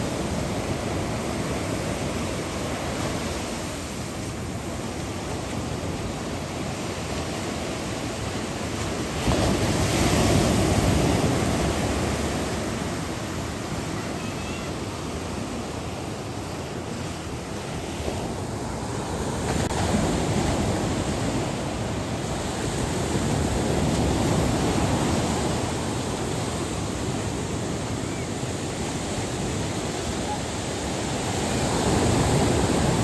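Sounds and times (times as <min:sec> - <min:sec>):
ocean surf breaking on beach: 0:00.0 - 0:33.0.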